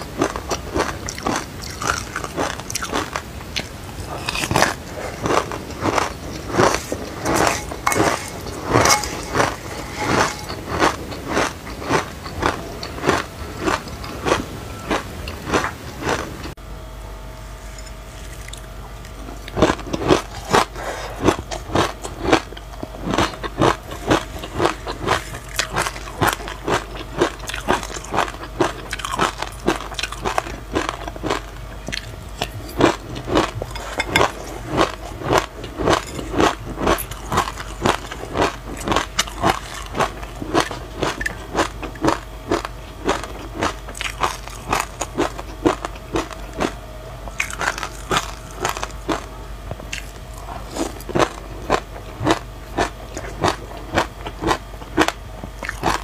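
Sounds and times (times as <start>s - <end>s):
mouth crunching seeds: 0.2s - 16.3s, 19.4s - 56.0s.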